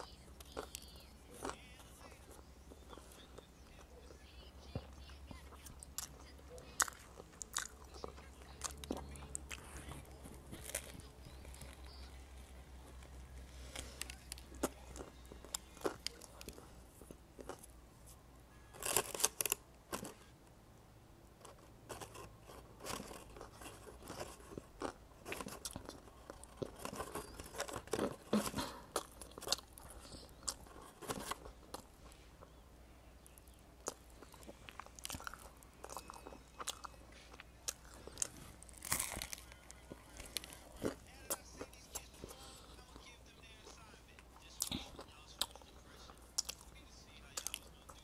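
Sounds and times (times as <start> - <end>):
biting and chewing crusty bread: 0.0 - 20.4, 21.3 - 48.0.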